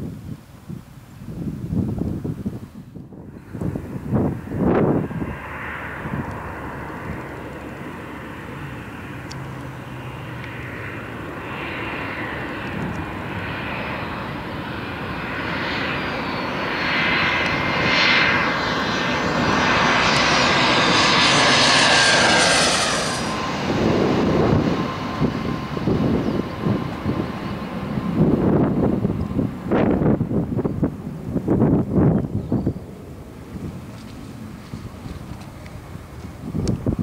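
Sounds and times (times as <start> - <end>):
jet engines powering along runway: 0.1 - 37.0
jet touching down: 3.0 - 37.0.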